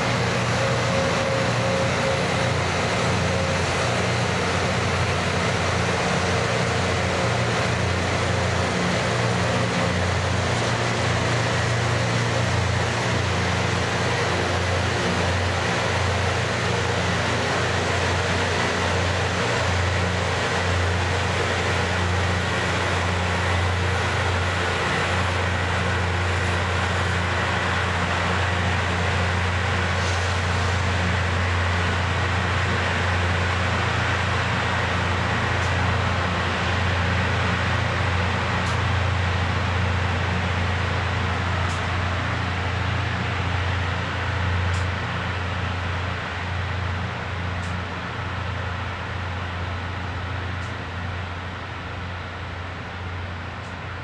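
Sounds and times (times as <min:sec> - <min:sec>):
diesel engines droning: 0:00.0 - 0:54.0.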